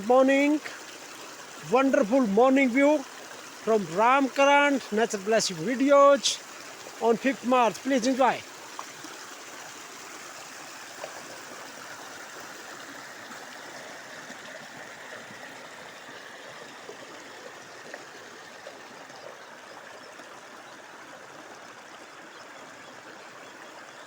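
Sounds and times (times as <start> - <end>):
stream water flowing and splashing: 0.0 - 24.0.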